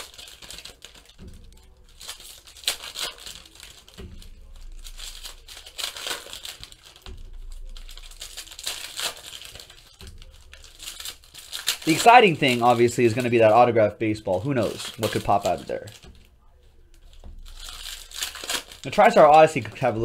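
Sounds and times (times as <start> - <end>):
foil wrappers crinkling and tearing: 0.0 - 20.0.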